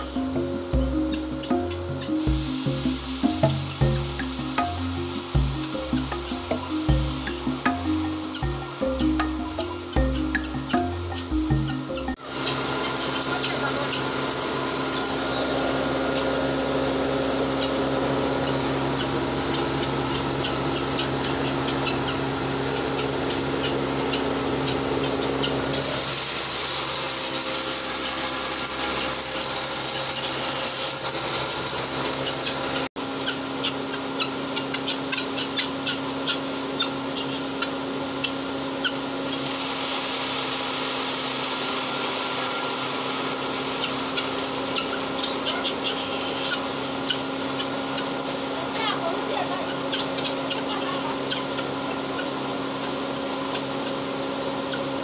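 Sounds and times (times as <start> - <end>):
grain mill humming: 0.0 - 55.0.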